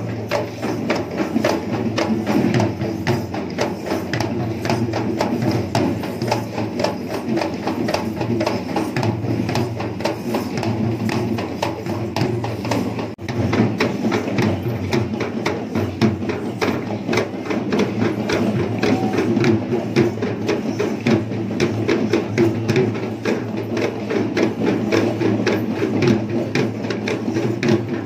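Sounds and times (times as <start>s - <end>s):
drum and cymbal strokes: 0.0s - 28.0s.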